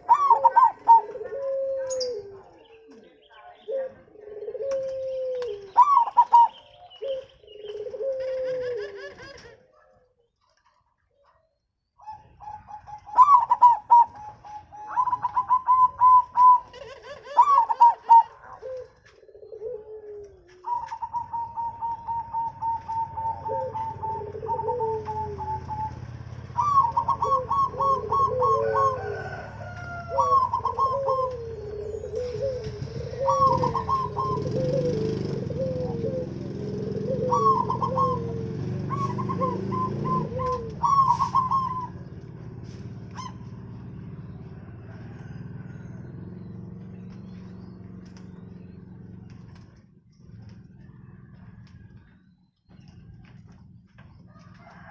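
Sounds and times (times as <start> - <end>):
small birds chirping: 0.0 - 8.6, 9.8 - 54.8
doves cooing: 0.0 - 11.4, 12.0 - 54.9.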